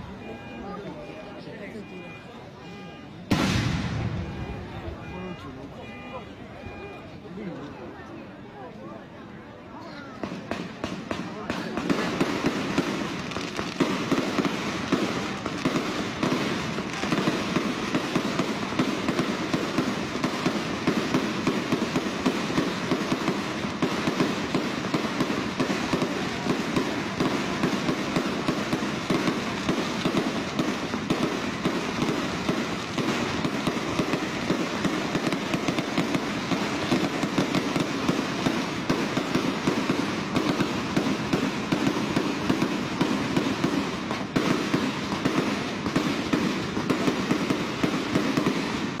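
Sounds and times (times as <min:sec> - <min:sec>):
firecrackers crackling rapidly: 0:03.3 - 0:05.4, 0:10.0 - 0:49.0.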